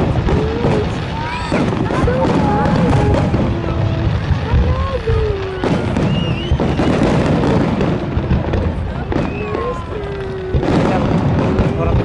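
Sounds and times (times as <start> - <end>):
fireworks bangs: 0.0 - 12.0
fireworks rumble and crackle: 0.0 - 12.0.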